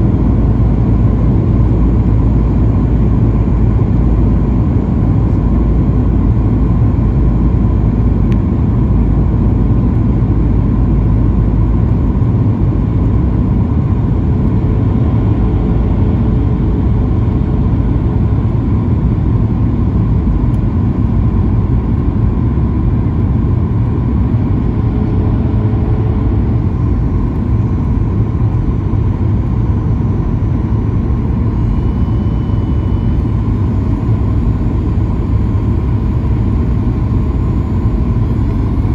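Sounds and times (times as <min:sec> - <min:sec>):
airplane cabin roar: 0:00.0 - 0:38.9
faint steady hum: 0:00.0 - 0:38.9.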